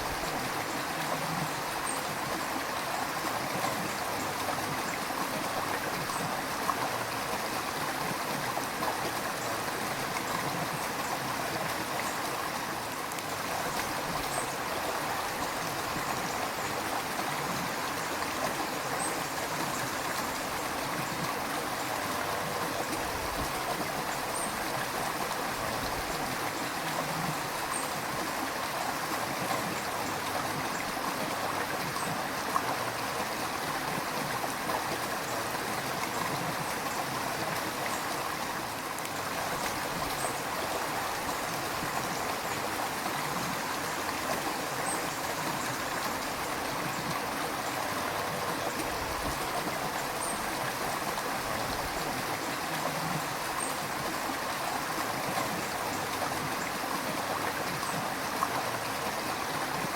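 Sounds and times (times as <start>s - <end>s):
river water flowing over rocks: 0.0s - 59.9s.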